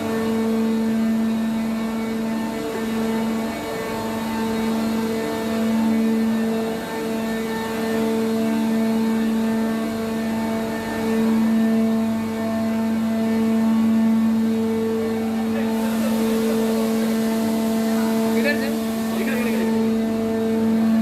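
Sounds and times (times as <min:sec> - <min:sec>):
heavy machinery droning: 0:00.0 - 0:21.0.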